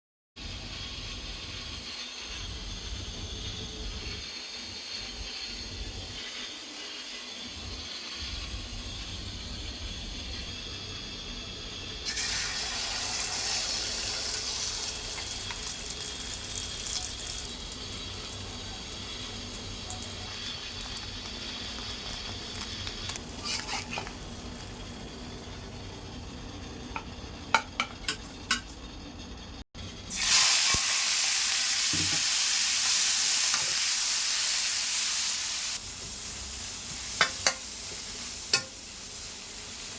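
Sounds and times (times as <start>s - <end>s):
food sizzling in hot oil: 0.4s - 39.9s.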